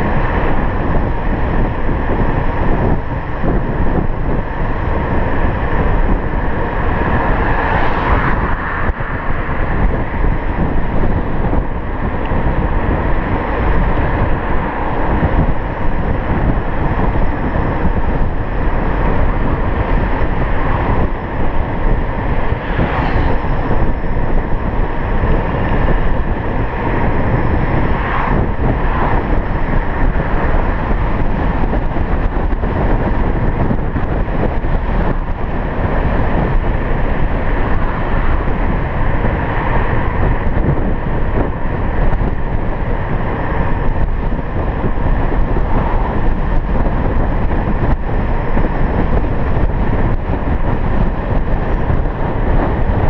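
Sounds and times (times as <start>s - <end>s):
road traffic noise: 0.0s - 53.0s
wind noise on microphone: 0.0s - 53.0s.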